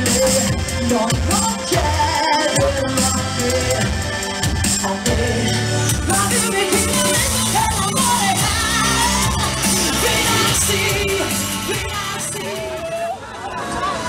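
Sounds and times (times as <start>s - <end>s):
woman singing into a microphone: 0.0s - 4.1s, 4.8s - 13.2s
amplified backing music: 0.0s - 14.0s.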